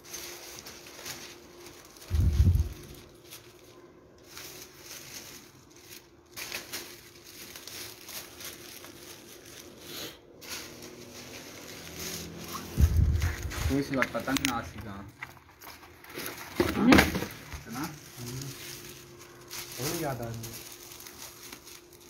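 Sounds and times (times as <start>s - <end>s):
paper sheets rustling: 0.0s - 22.0s.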